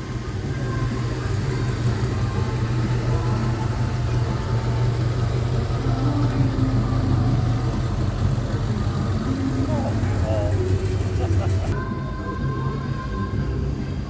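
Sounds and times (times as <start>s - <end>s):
car engine rumbling at low speed: 0.0s - 14.0s.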